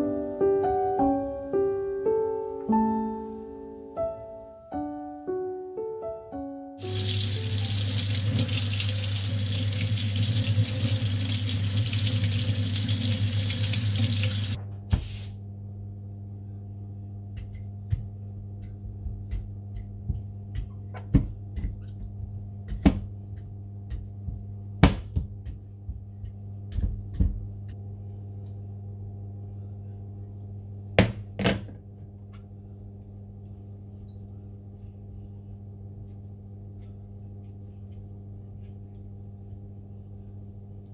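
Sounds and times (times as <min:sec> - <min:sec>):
steady low hum: 0:07.8 - 0:40.9.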